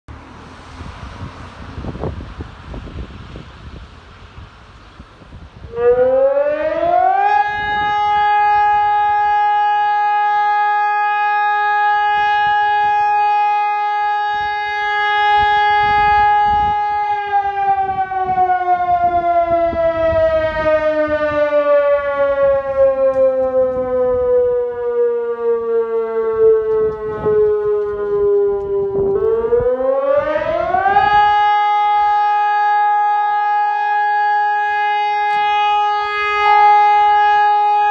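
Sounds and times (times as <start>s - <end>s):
electronic siren wailing: 5.6s - 37.9s.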